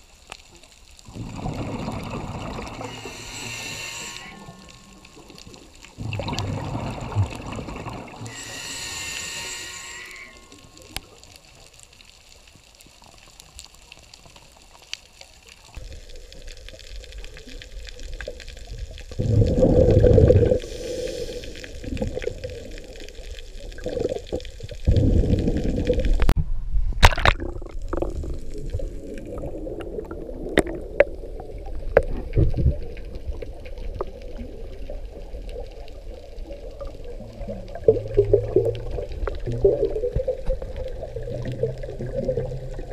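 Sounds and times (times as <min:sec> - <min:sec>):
rushing bubbling underwater noise: 0:00.0 - 0:11.7, 0:15.6 - 0:42.9.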